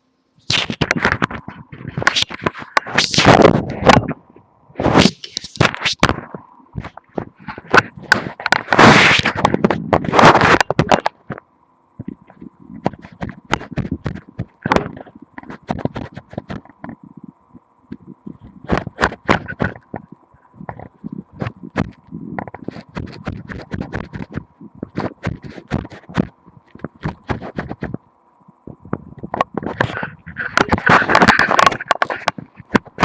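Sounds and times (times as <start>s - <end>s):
sharp clicks and knocks: 0.4s - 4.2s, 4.8s - 17.2s, 17.9s - 28.1s, 28.7s - 33.0s
microphone handling rubs: 0.5s - 11.4s, 12.0s - 28.0s, 28.6s - 33.0s.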